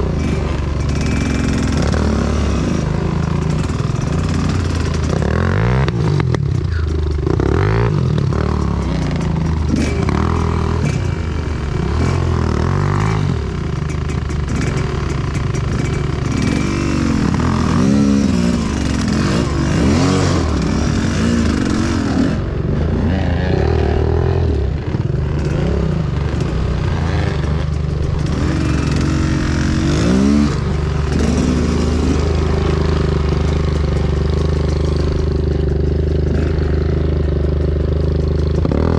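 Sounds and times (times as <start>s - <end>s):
motorcycle engine revving: 0.0s - 38.9s
motorcycle rattling clatter: 0.0s - 38.9s.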